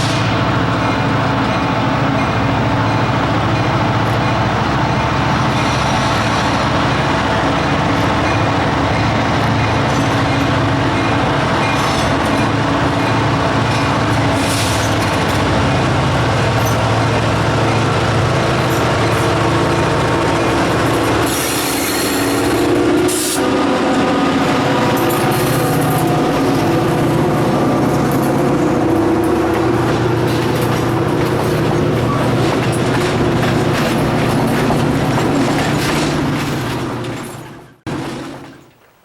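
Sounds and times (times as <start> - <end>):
freight train passing: 0.0 - 38.9.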